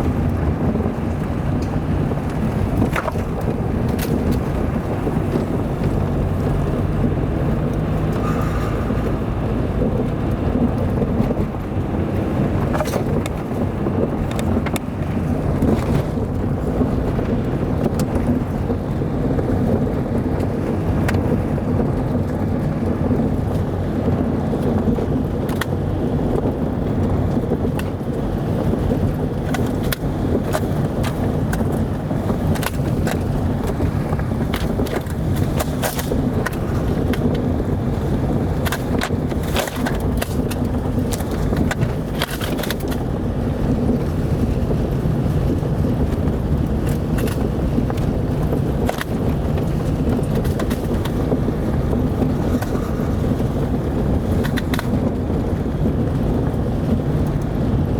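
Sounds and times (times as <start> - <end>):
car tyres and engine rumbling: 0.0 - 57.9
knocks and rattles from rough road: 0.0 - 57.9.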